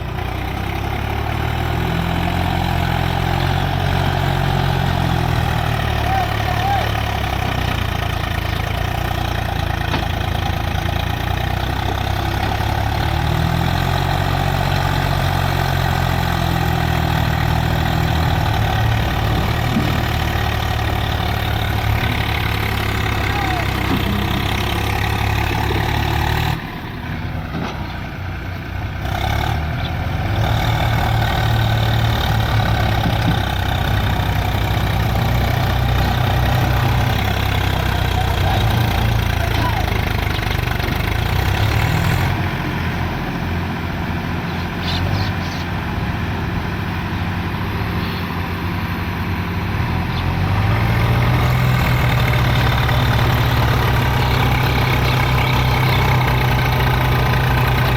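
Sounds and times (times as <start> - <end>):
heavy diesel engines running: 0.0 - 57.9.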